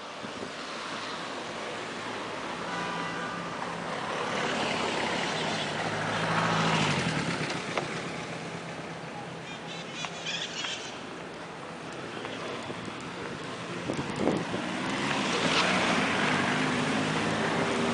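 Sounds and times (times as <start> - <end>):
steady traffic noise: 0.0 - 17.9.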